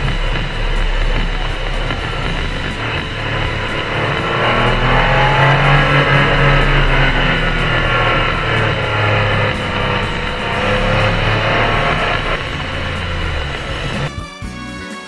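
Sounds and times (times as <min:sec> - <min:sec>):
car engine: 0:00.0 - 0:14.1
road noise inside car: 0:00.0 - 0:14.1
background music: 0:00.0 - 0:15.0.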